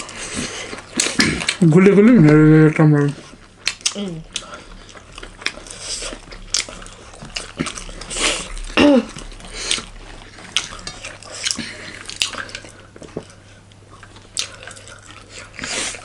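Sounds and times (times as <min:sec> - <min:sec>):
wet chewing and lip smacks: 0:03.0 - 0:16.0.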